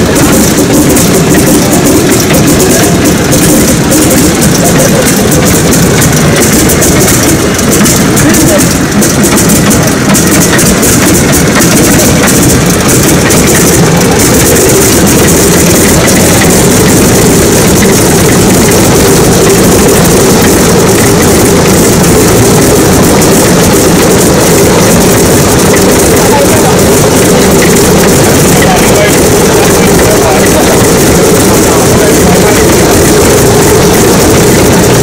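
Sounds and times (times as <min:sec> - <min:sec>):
radial aircraft engine running: 0:00.0 - 0:35.0.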